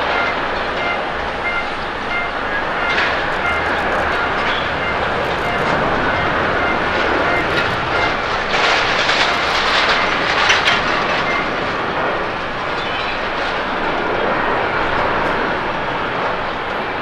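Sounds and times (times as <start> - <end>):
jet rushing down runway: 0.0 - 17.0.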